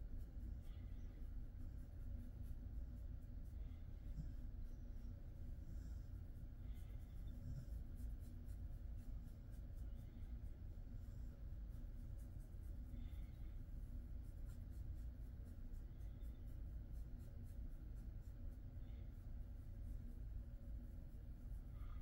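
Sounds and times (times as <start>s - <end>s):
hands rubbing dog fur: 0.0s - 21.9s
low steady hum: 0.0s - 22.0s.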